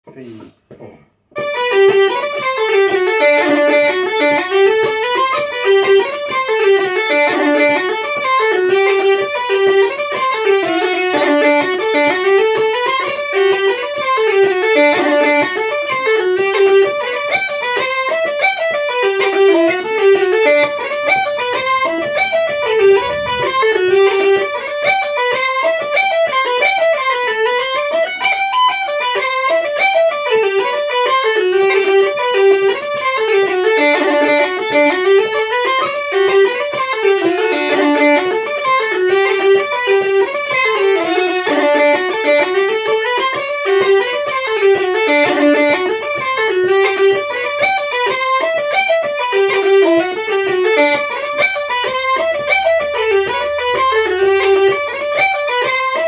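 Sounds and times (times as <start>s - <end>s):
uilleann pipes playing folk tune: 1.4s - 56.0s.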